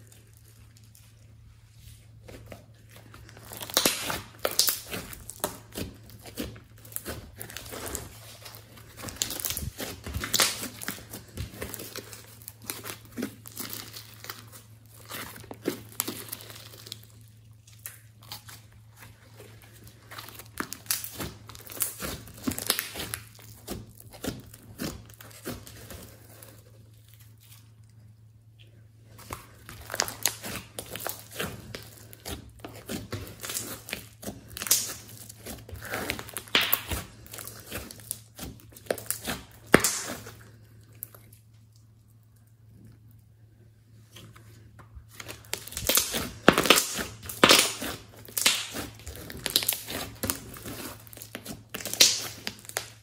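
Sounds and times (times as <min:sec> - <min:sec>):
slime crackling and popping: 0:02.2 - 0:43.3, 0:45.0 - 0:53.0.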